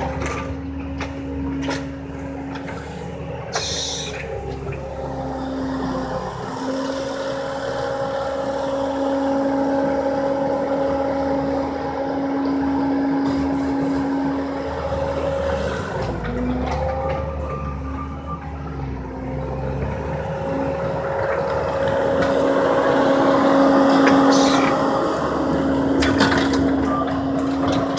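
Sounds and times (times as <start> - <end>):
diesel engine at high revs: 0.0 - 27.9.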